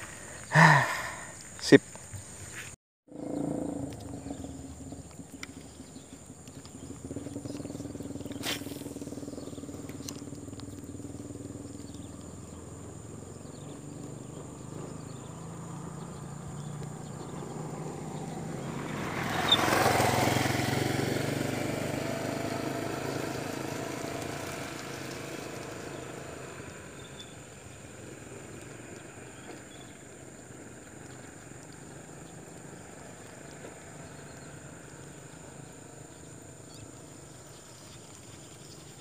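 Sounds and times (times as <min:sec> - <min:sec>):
motorcycle passing by: 0:02.5 - 0:39.0.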